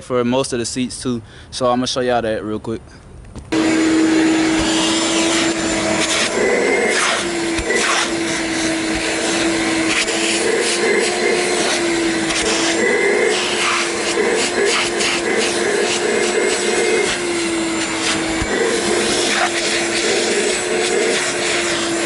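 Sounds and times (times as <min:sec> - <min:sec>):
shop vac whining: 0:03.5 - 0:22.0.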